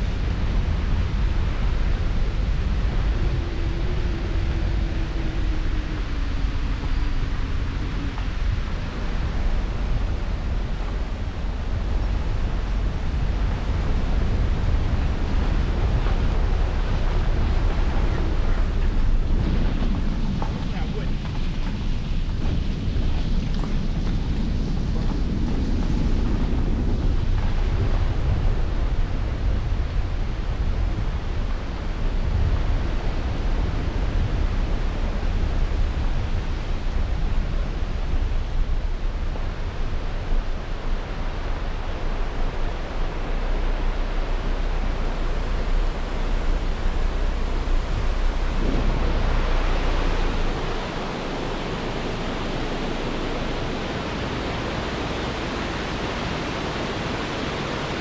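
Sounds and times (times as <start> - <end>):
low rumble: 0.0 - 58.0
mountain stream rushing over rocks: 0.0 - 58.0.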